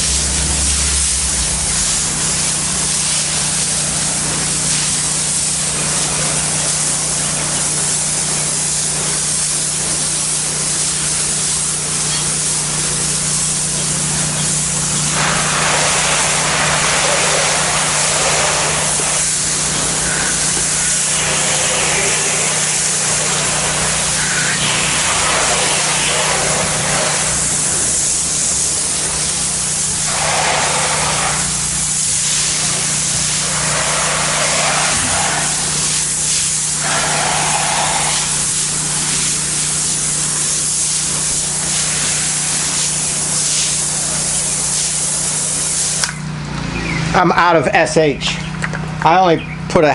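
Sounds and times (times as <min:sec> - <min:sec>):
pressure washer spray hissing: 0:00.0 - 0:46.4
pressure washer motor hum: 0:00.0 - 0:49.9.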